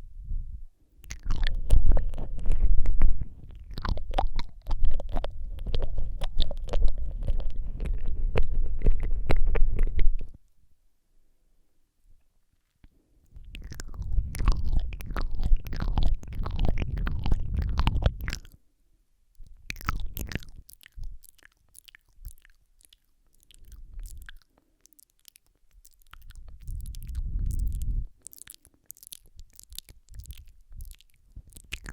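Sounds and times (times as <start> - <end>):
wet mouth clicks and smacks: 1.0 - 10.4, 12.8 - 18.6, 19.4 - 31.9.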